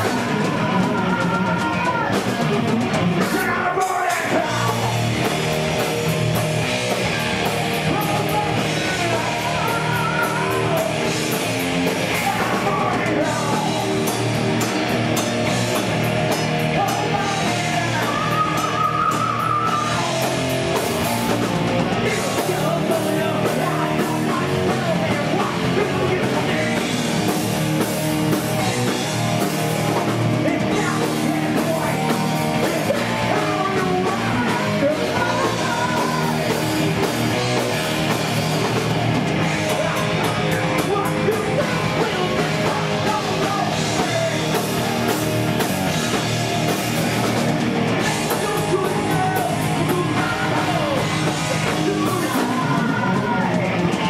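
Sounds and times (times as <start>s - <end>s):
distorted electric guitars: 0.0s - 54.0s
driving drum kit: 0.0s - 54.0s.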